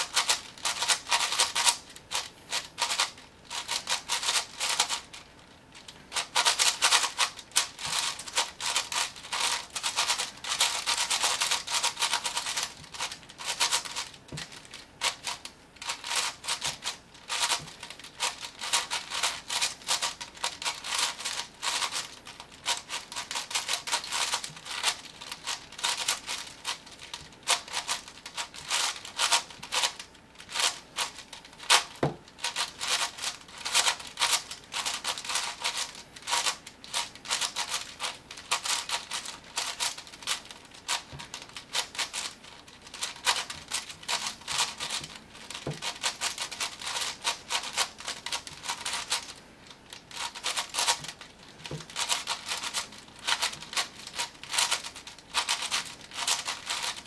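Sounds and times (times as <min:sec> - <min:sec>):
puzzle cube turning clicks: 0:00.0 - 0:05.2, 0:05.8 - 0:57.0.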